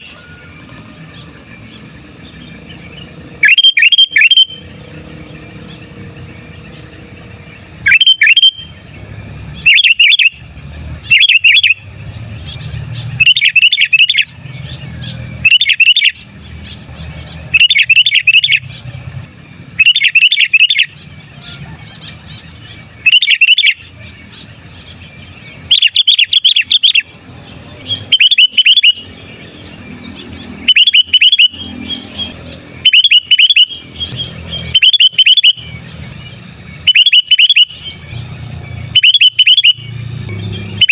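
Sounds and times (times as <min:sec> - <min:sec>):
bulbul singing quick chirps: 0:00.0 - 0:40.9.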